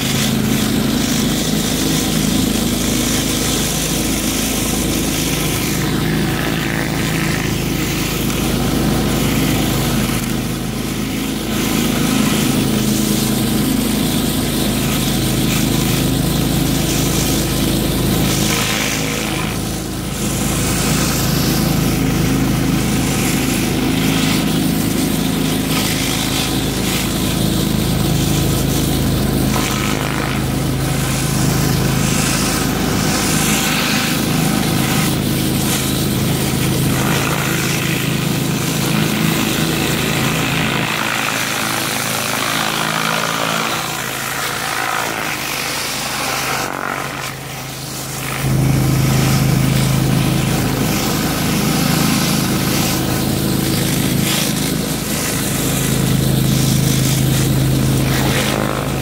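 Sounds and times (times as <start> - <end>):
pressure washer engine drone: 0.0 - 59.0
water jets hissing on concrete: 0.0 - 59.0.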